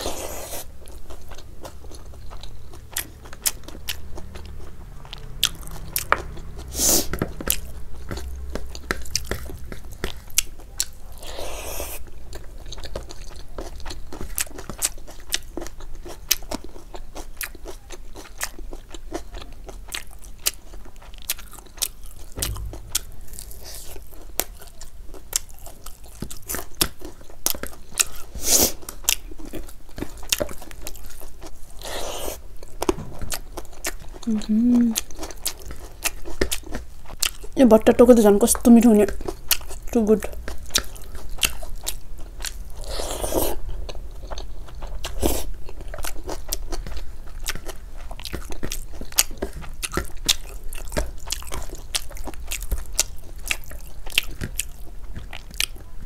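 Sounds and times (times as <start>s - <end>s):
chewing and crunching crisp food: 0.0s - 56.0s.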